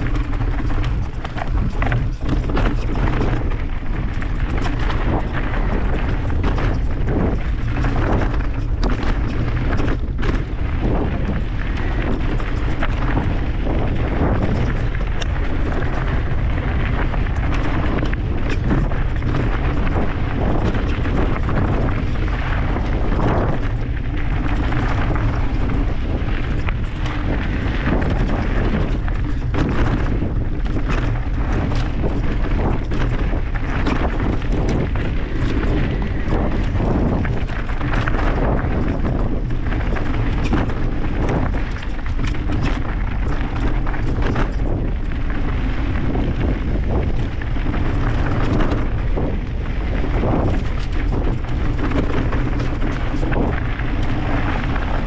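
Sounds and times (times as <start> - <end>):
bike clattering over bumps: 0.0 - 55.0
wind rumble on microphone: 0.0 - 55.0.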